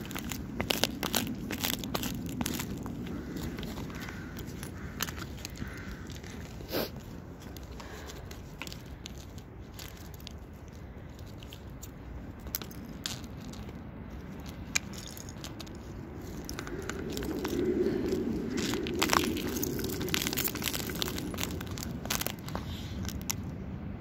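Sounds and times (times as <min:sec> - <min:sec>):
ice cracking and crunching: 0:00.0 - 0:23.4.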